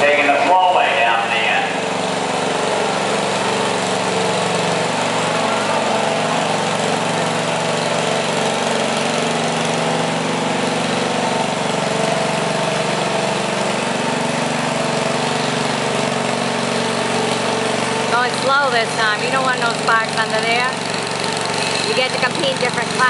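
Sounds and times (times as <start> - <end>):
small tractor engine running: 0.0 - 23.0.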